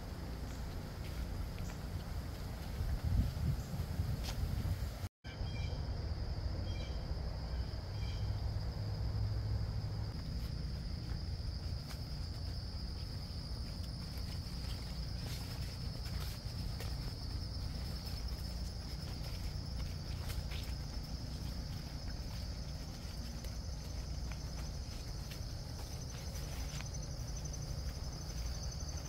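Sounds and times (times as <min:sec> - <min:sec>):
insects trilling: 0:05.3 - 0:29.0.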